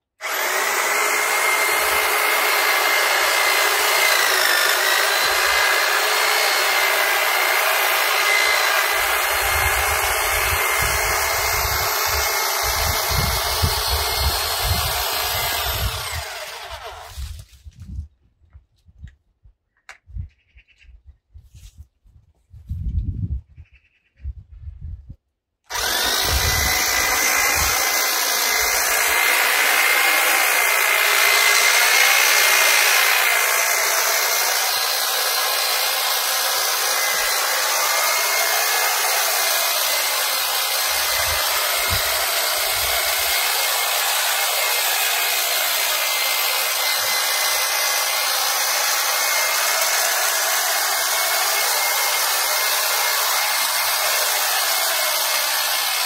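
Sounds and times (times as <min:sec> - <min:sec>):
electric hedge trimmer whining: 0:00.0 - 0:17.4, 0:25.7 - 0:56.0.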